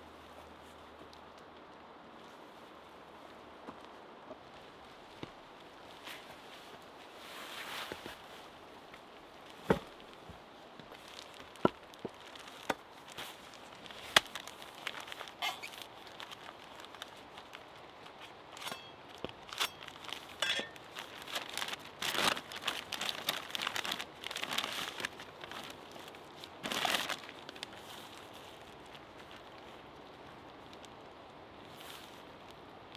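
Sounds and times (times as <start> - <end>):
rustling crinkling handling noises: 0.2 - 32.9.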